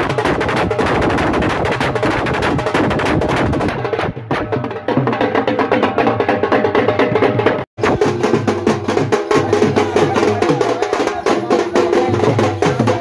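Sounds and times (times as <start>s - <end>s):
fast drumming: 0.0s - 13.0s.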